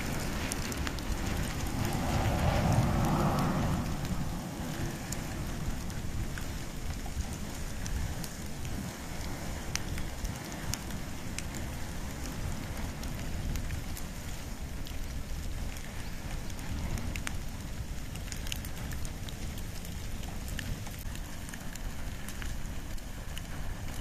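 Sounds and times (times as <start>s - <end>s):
fire crackling and popping: 0.0s - 24.0s
fire low rumble: 0.0s - 24.0s.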